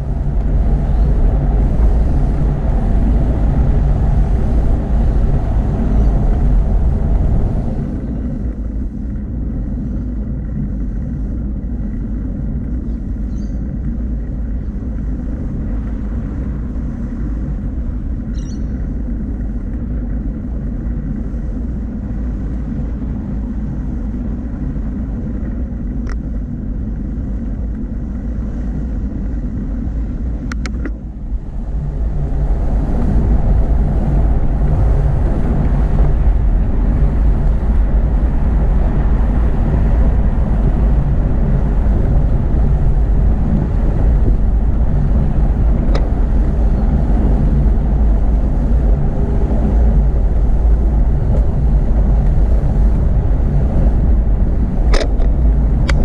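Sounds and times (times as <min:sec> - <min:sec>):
wind and tyre rumble: 0:00.0 - 0:56.0.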